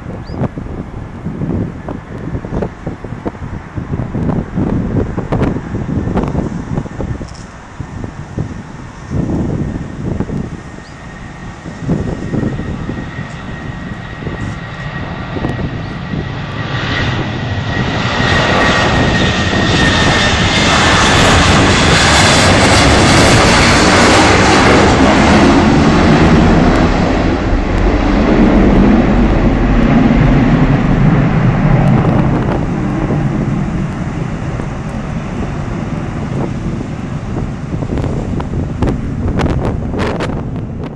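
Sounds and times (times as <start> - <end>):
high jet whine: 0.0 - 40.9
jet engines at high power: 0.0 - 40.9.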